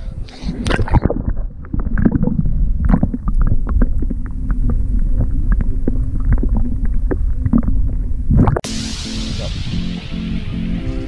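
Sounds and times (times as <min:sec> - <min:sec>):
underwater water rumble: 0:00.0 - 0:10.3.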